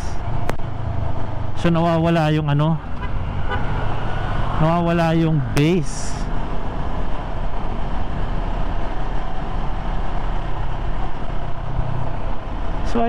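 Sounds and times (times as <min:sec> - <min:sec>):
motorcycle engine cruising: 0:00.0 - 0:13.0
wind and road rush: 0:00.0 - 0:13.0.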